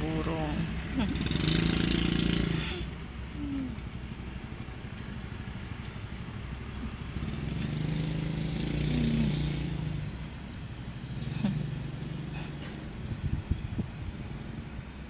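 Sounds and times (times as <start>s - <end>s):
motorcycle engine: 0.0s - 13.8s.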